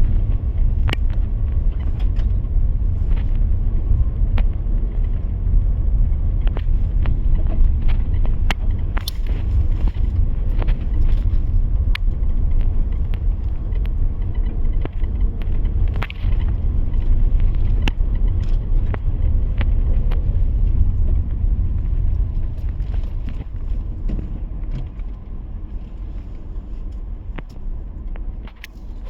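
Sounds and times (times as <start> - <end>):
sharp clicks and ticks: 0.0 - 23.9
steady low rumble: 0.0 - 29.0.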